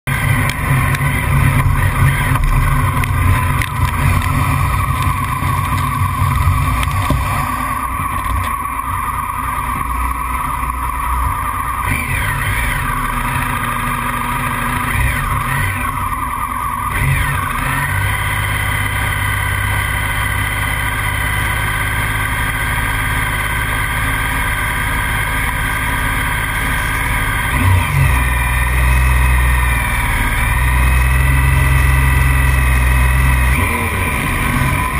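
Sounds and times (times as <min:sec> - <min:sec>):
motorcycle engine revving: 0:00.0 - 0:34.9
motorcycle engines idling: 0:00.1 - 0:34.9.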